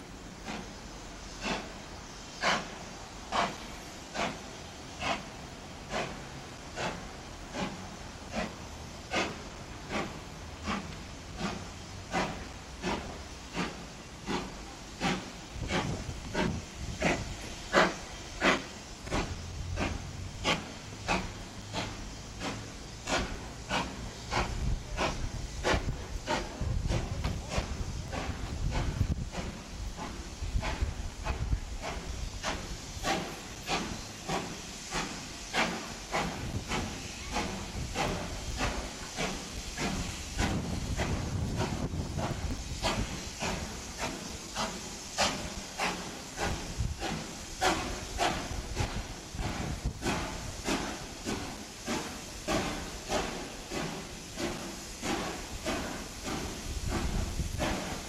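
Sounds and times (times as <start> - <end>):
low locomotive rumble: 0.0 - 58.0
steam hissing: 0.0 - 58.0
steam locomotive exhaust chuffs: 0.0 - 58.0.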